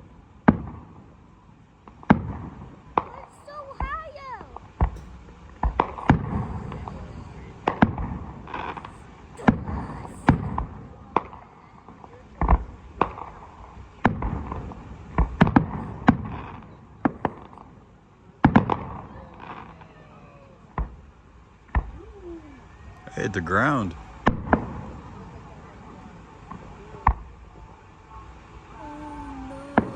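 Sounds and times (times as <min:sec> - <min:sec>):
fireworks crackle: 0:00.0 - 0:29.9
fireworks bangs with echo: 0:00.4 - 0:01.2, 0:01.8 - 0:22.1, 0:23.2 - 0:28.6.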